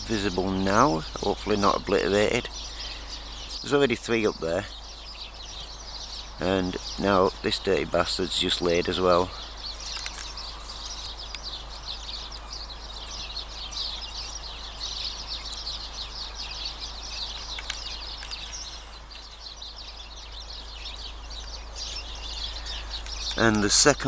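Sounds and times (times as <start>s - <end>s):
low steady hum: 0.0s - 24.0s
small birds chirping: 0.0s - 24.0s.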